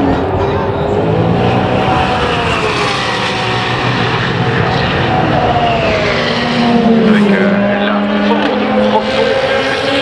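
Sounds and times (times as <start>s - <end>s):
race car engine passing: 0.0s - 10.0s.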